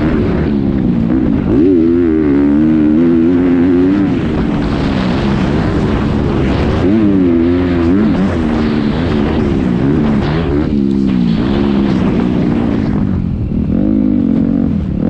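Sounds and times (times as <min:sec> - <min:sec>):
motorcycle engine revving: 0:00.0 - 0:15.0
steady rush of noise: 0:00.0 - 0:15.0.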